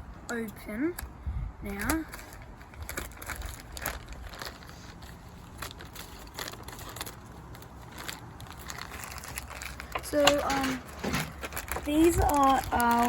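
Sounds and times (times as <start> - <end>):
low steady hum: 0.0 - 13.0
packaging crinkling and rustling: 1.7 - 13.0.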